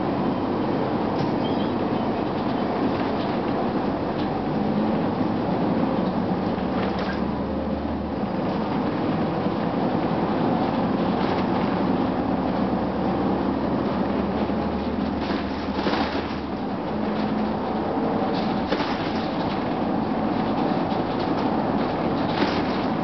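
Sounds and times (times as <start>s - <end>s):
air conditioning running: 0.0s - 23.0s
bus diesel engine rumble: 0.0s - 23.0s
road noise: 0.0s - 23.0s.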